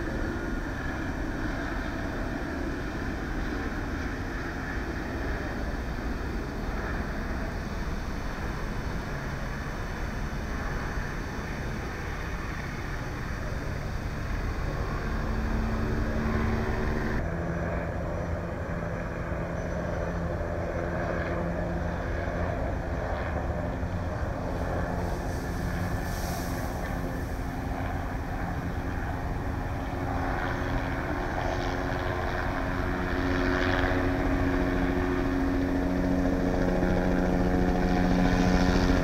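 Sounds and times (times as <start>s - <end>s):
helicopter rumble: 0.0s - 39.0s.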